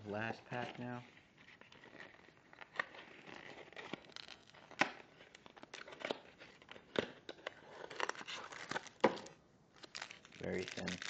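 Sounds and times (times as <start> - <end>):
card pack wrapper crinkling: 1.5 - 11.0.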